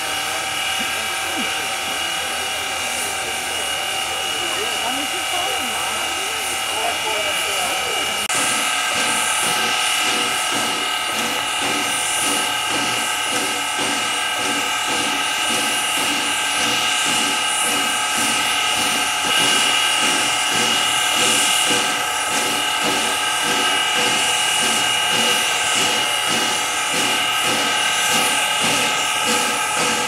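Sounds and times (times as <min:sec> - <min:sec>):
steam locomotive whine: 0:00.0 - 0:30.0.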